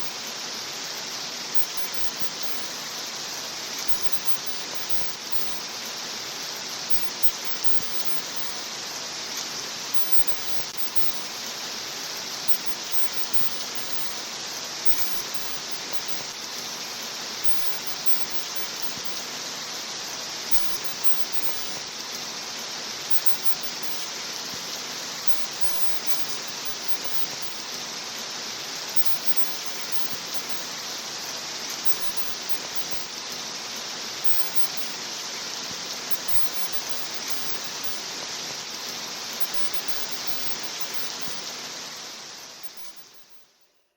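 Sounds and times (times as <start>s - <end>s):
steady rain: 0.0s - 43.3s.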